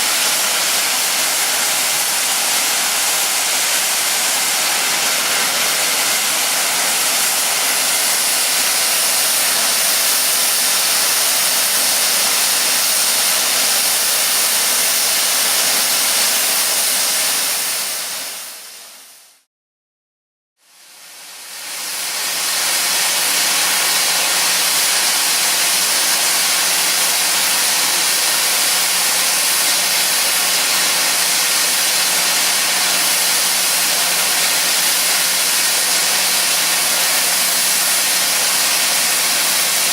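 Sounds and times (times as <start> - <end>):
steam hissing: 0.0 - 18.7, 20.8 - 39.9.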